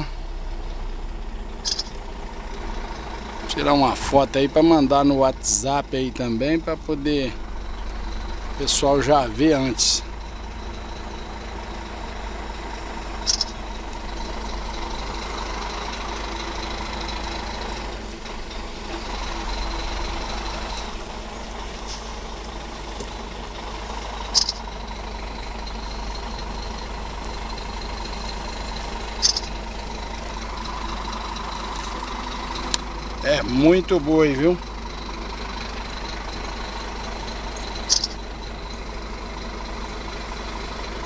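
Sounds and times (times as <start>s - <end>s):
truck engine humming: 0.0s - 41.0s.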